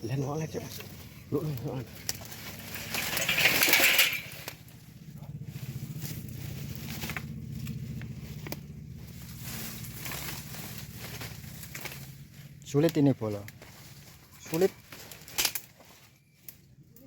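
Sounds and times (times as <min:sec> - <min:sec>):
loud scraping crunch: 0:00.6 - 0:16.4.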